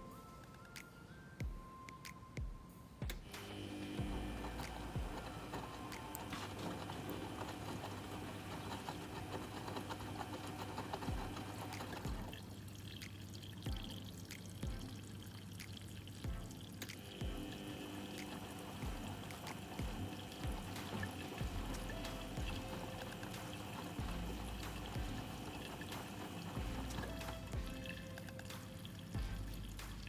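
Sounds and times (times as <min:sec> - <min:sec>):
washing machine low hum: 0:03.2 - 0:15.4, 0:16.1 - 0:28.4
water sloshing in washing machine: 0:03.4 - 0:30.0.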